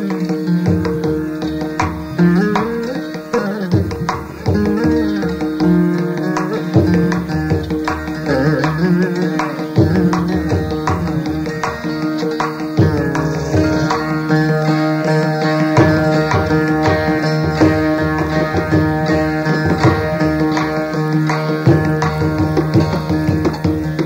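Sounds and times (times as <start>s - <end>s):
plucked veena notes: 0.0s - 24.0s.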